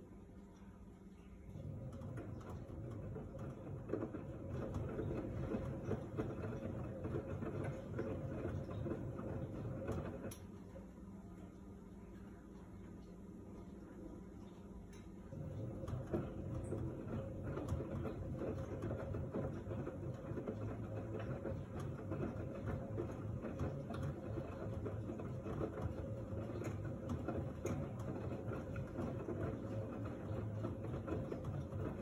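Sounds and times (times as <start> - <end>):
washing machine running: 0.0 - 32.0.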